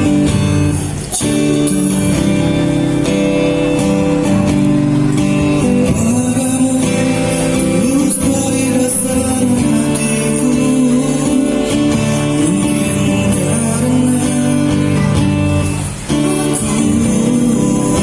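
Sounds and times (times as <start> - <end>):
music with guitar and singing: 0.0 - 18.0.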